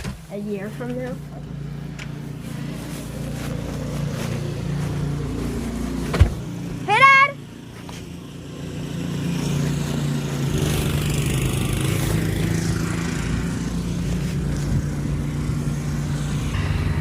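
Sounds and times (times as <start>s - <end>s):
snowblower engine running: 0.6s - 17.0s.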